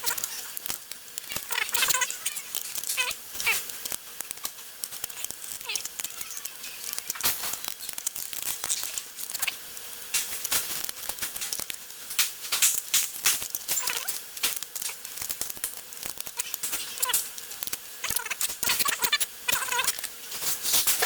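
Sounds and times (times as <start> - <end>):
plastic parts clicking and rattling: 0.0 - 21.0.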